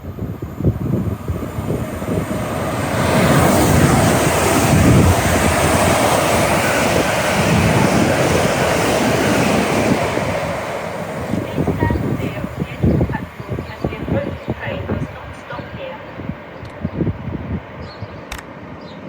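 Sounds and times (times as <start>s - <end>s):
train passing wheel and air noise: 0.0s - 19.0s.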